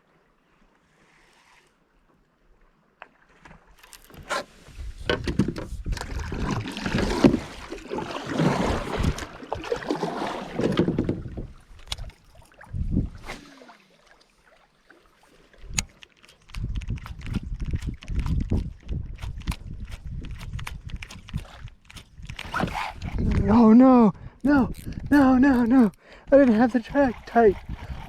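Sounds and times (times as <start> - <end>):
water sloshing: 3.1 - 23.7, 24.7 - 28.0.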